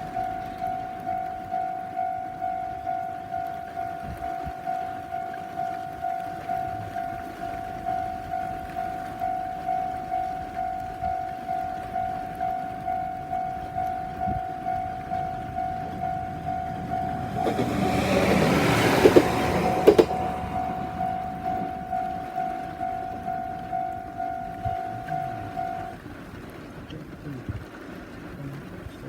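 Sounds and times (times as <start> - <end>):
level crossing warning bell: 0.0 - 26.0
wheels clacking on rail joints: 0.0 - 26.0
diesel railcar passing: 0.0 - 26.3.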